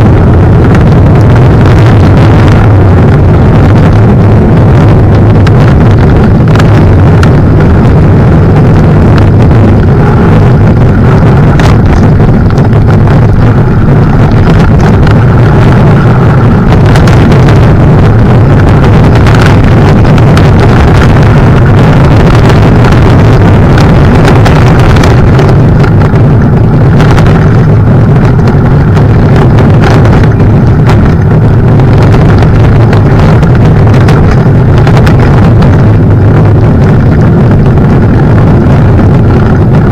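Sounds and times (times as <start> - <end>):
wind and vibration rumble: 0.0 - 39.9.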